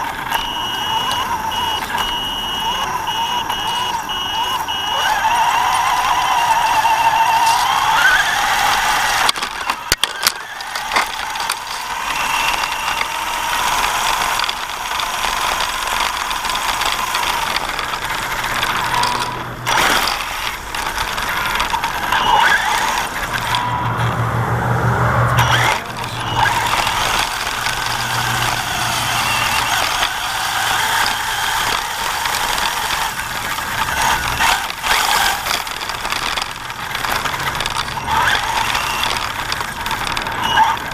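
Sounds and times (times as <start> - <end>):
clicks: 0.0 - 40.9
electric motor whining: 0.0 - 40.9
squeaky bearing: 0.0 - 40.9.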